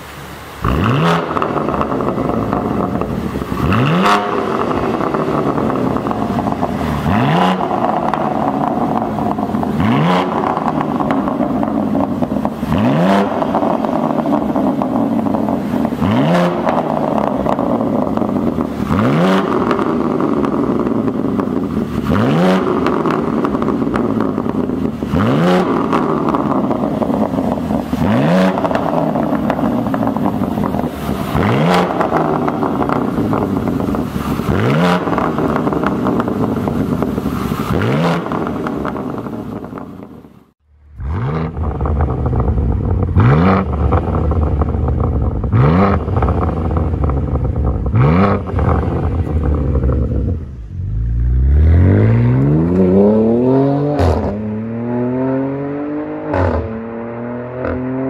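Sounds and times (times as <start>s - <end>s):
car engine revving: 0.0s - 58.0s
car accelerating away: 0.6s - 58.0s.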